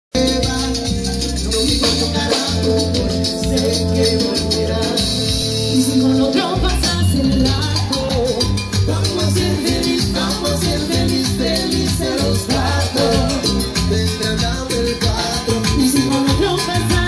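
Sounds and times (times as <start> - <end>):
fast high percussion: 0.1 - 17.0
live latin band playing: 0.1 - 17.0
steady bass line: 0.1 - 17.0
people singing into microphones: 0.2 - 17.0.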